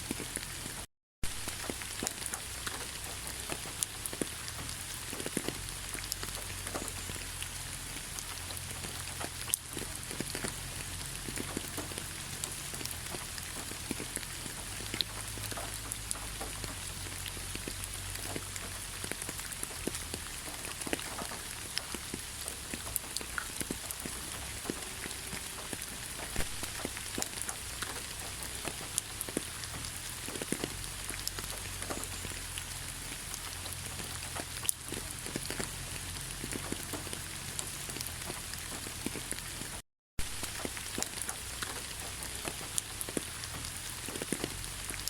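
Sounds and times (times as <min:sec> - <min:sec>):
rain patter in a forest: 0:00.0 - 0:45.0
raindrops ticking close by: 0:00.0 - 0:45.0.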